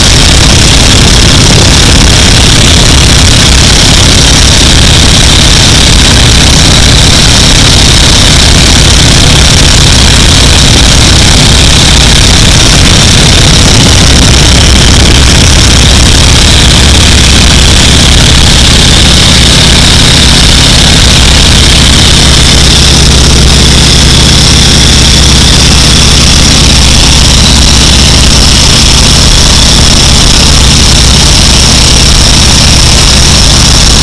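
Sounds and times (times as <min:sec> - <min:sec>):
propeller plane engine drone: 0:00.0 - 0:34.0.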